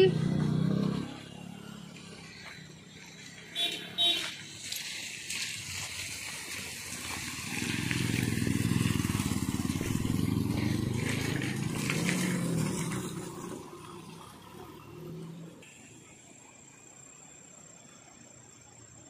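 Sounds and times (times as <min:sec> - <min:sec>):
motorcycle passing: 0:00.0 - 0:15.6
car passing: 0:00.0 - 0:16.0.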